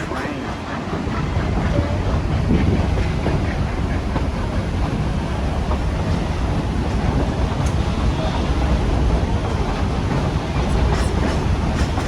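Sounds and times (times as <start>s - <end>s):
train cars rumbling on rails: 0.0s - 12.0s.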